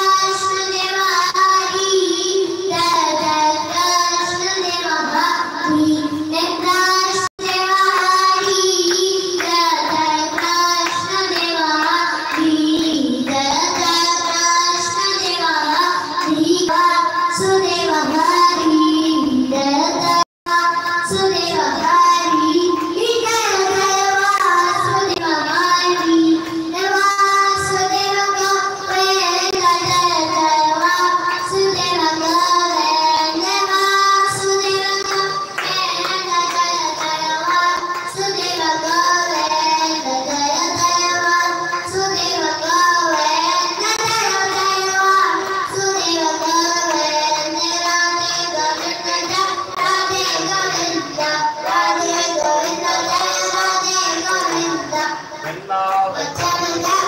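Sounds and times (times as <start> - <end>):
boy singing into microphone: 0.0 - 57.0.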